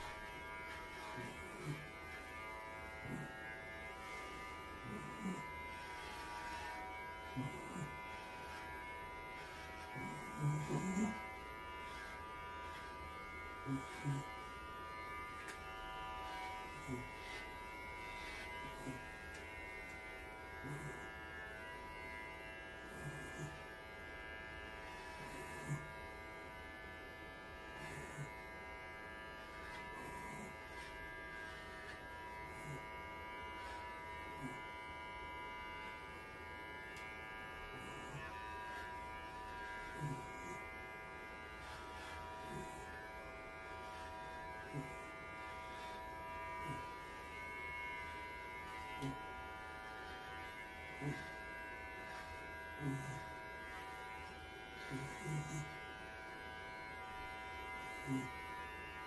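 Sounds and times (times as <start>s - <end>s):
electric hair clippers buzzing: 0.0s - 59.0s.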